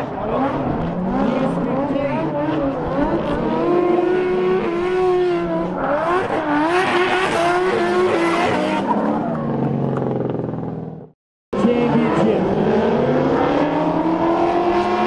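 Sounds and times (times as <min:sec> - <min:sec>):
car engines revving high: 0:00.0 - 0:15.0.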